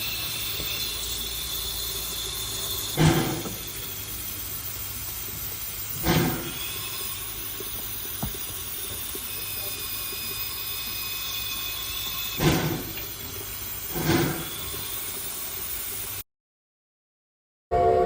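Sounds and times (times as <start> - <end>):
heavy steam bursts: 0.0 - 16.2
steam train hissing: 0.0 - 16.2.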